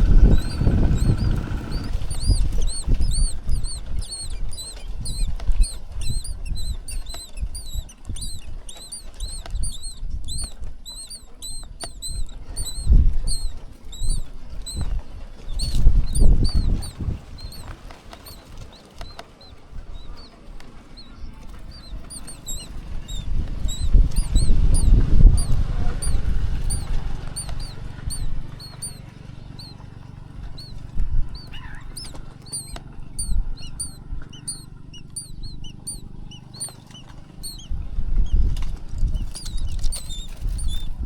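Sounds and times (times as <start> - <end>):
low rumbling with thumps: 0.0 - 41.0
nestlings begging peeps: 0.0 - 41.0.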